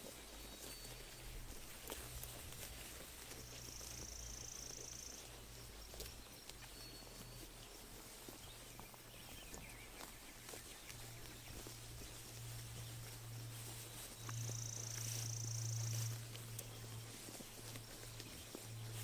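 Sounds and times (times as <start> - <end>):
low steady hum: 0.0 - 19.0
sheep chewing grass: 0.0 - 19.0.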